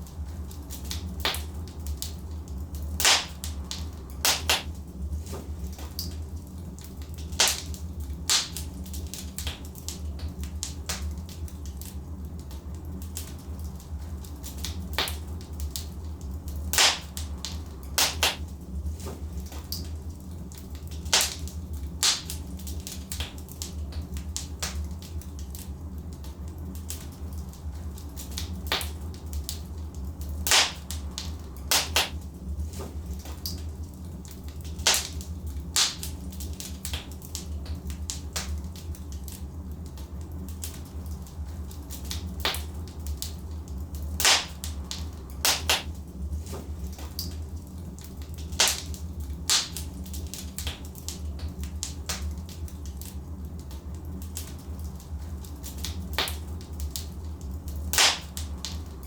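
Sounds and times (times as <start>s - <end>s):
logs crackling and popping: 0.0s - 59.0s
low fire rumble: 0.0s - 59.0s.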